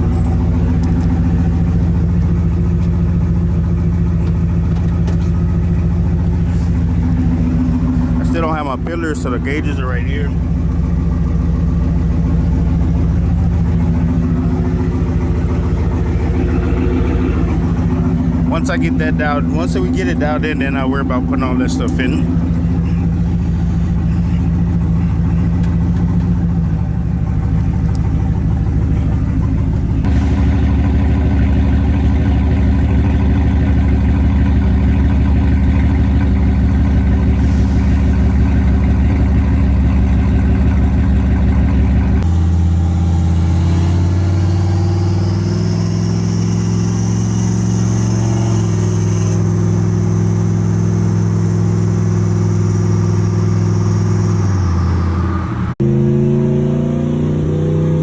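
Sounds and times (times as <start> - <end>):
high turbo whine: 0.0 - 58.0
truck engine running: 0.0 - 58.0.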